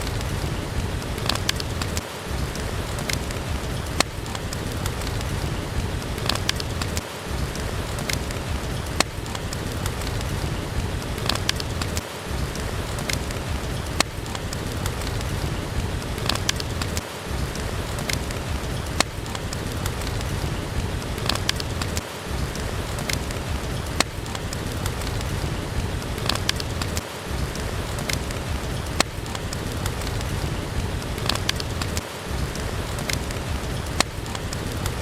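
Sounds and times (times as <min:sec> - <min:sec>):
steady rain falling: 0:00.0 - 0:35.0
wood fire crackling: 0:00.0 - 0:35.0.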